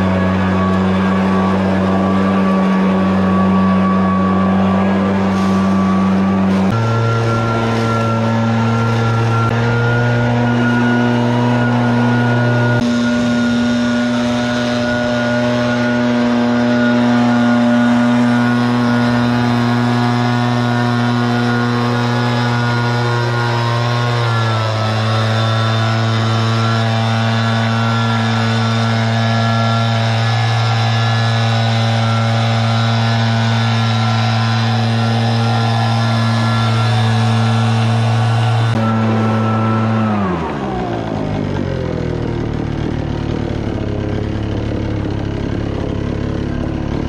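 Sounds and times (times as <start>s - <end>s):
leaf blower engine running: 0.0s - 47.0s.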